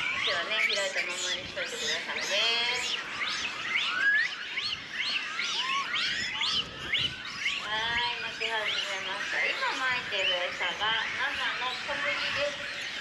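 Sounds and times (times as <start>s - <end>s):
macaques coo calls: 0.0s - 13.0s.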